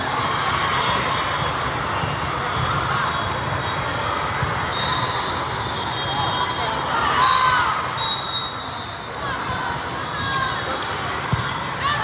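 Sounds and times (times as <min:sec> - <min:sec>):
crowd chatter: 0:00.0 - 0:12.0.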